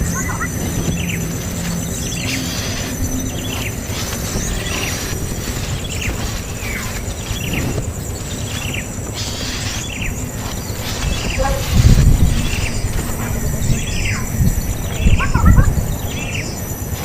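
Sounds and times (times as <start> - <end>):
bird giving falling chirps: 0.0 - 16.6
high insect buzz: 0.0 - 17.0.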